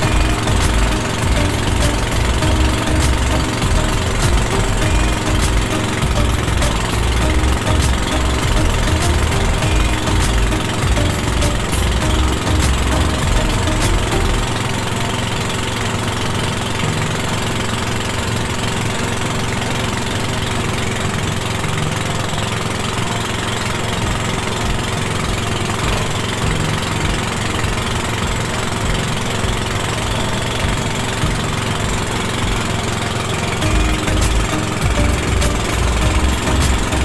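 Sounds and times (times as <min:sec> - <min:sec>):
motorboat engine running: 0:00.0 - 0:37.0.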